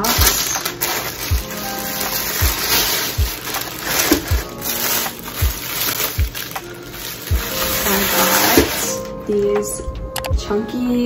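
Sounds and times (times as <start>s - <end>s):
music with kick-drum beat: 0.0s - 8.9s, 9.8s - 11.0s
plastic bag crinkling: 0.0s - 9.4s.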